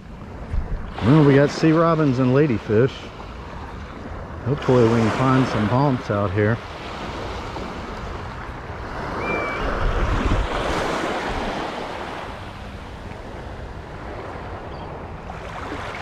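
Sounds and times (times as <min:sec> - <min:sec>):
wind buffeting microphone: 0:00.0 - 0:01.6, 0:03.4 - 0:16.0
small waves washing onto sand: 0:00.0 - 0:16.0.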